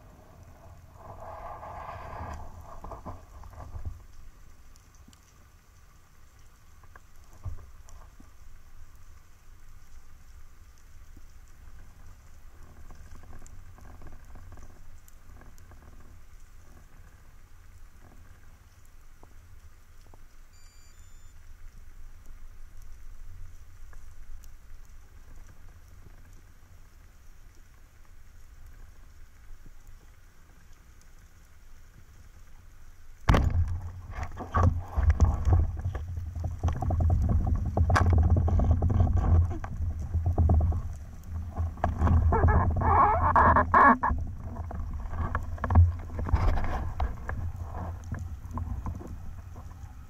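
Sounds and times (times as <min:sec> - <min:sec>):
underwater sea rumble and hiss: 0:00.0 - 0:20.3, 0:21.4 - 0:50.0.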